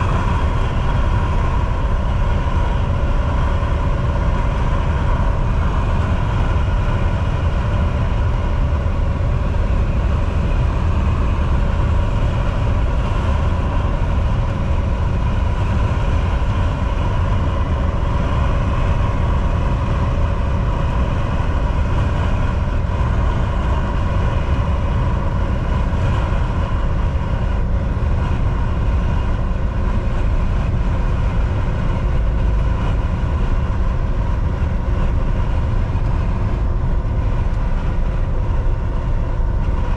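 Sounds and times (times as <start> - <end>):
faint steady whine: 0.0 - 39.9
truck engine rumble: 0.0 - 39.9
tyre and road noise: 0.0 - 39.9.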